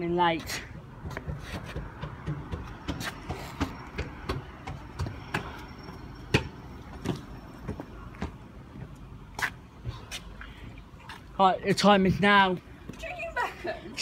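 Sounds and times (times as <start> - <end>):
footsteps on concrete steps: 0.0 - 14.0.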